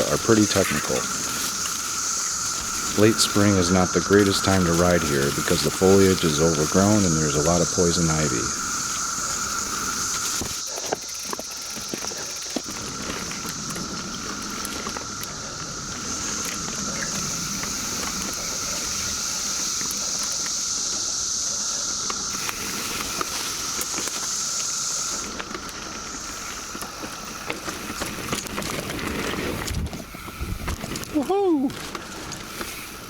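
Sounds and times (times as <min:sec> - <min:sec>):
lower steady buzz: 0:00.0 - 0:28.7
cicadas droning: 0:00.0 - 0:33.0
mountain bikes on dirt trail: 0:00.0 - 0:33.0.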